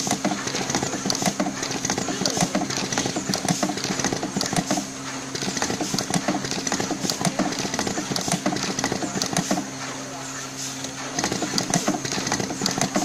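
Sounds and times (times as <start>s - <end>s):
machine mechanism clicking: 0.0s - 9.7s, 10.8s - 13.0s
machine humming: 0.0s - 13.0s.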